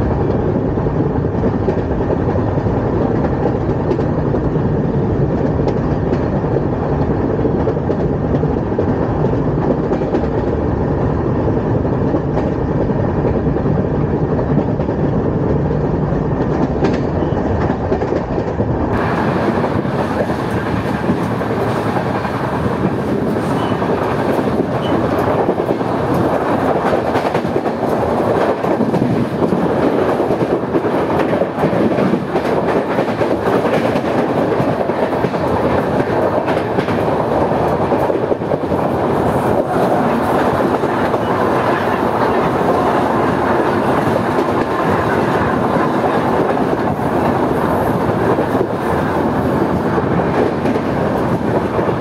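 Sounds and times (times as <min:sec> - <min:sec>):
train wheels clacking over rails: 0:01.2 - 0:11.2, 0:11.8 - 0:52.0.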